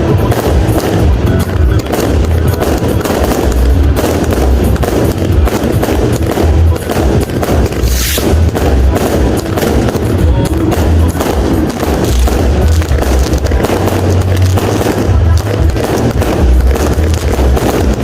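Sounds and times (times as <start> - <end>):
firecrackers banging and crackling: 0.0 - 18.0
hissing firework burst: 0.0 - 18.0
music with heavy bass beat: 0.0 - 18.0.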